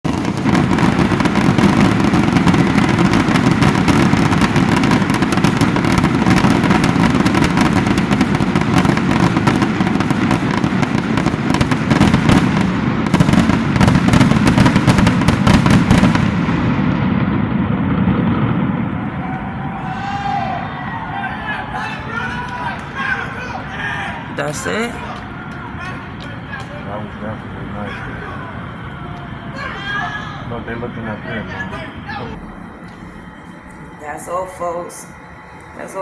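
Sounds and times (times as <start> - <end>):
fireworks crackling bangs: 0.0 - 36.0.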